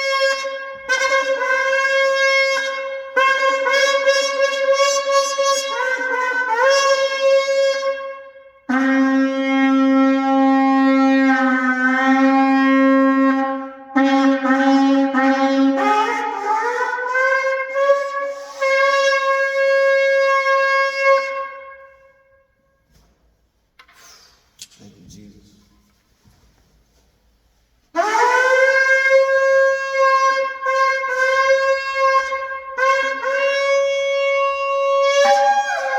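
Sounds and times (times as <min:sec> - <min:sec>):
shofar blasts: 0:00.0 - 0:22.8, 0:27.9 - 0:35.9.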